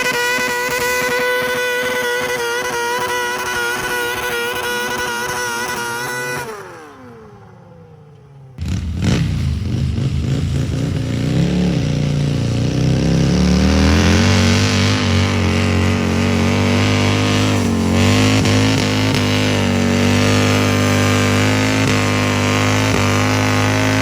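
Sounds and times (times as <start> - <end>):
loud engine revving: 0.0 - 24.0
tractor engine winding down: 0.0 - 24.0.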